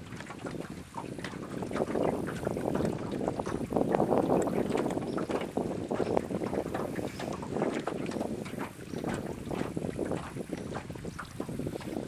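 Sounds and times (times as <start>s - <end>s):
small waves lapping against hull: 0.0s - 12.0s
wind buffeting microphone: 0.0s - 12.0s.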